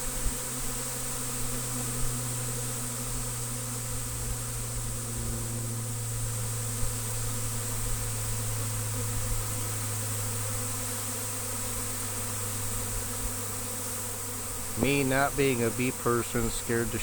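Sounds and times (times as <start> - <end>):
bee swarm droning: 0.2 - 17.0.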